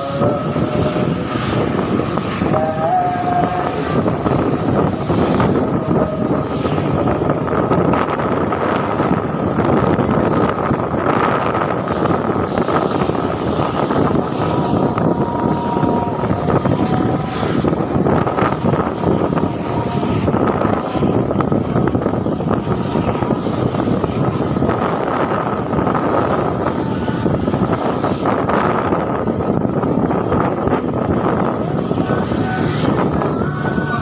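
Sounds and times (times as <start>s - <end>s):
vehicle engines: 0.0s - 34.0s
wind on microphone: 0.0s - 34.0s.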